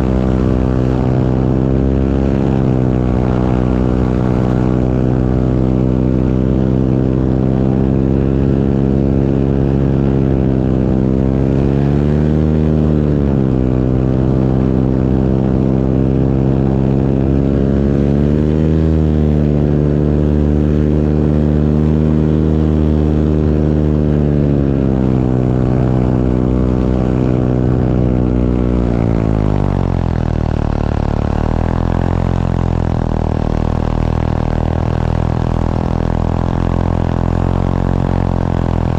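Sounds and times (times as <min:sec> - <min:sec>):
propeller aircraft engine droning: 0:00.0 - 0:38.9.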